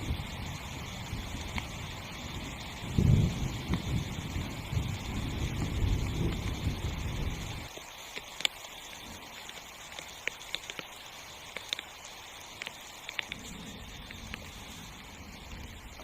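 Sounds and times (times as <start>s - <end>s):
rain hissing on a tent: 0.0s - 16.0s
raindrops tapping fabric: 0.0s - 16.0s.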